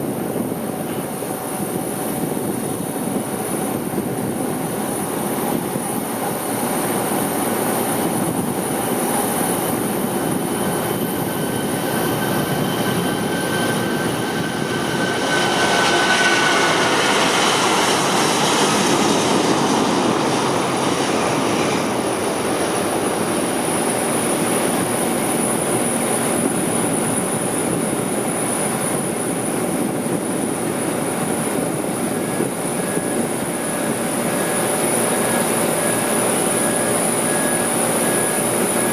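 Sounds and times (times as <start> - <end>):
jet engine rushing: 0.0 - 38.9.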